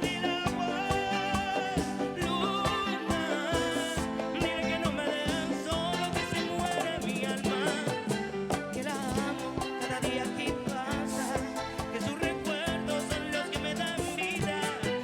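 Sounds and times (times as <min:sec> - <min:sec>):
percussion beat: 0:00.0 - 0:15.0.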